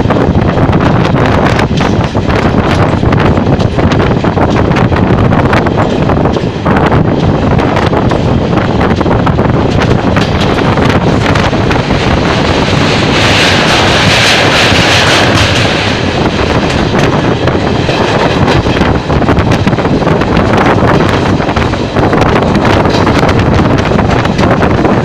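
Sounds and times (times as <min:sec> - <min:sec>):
train wheels rumbling on rails: 0:00.0 - 0:25.0
wind buffeting microphone: 0:00.0 - 0:25.0.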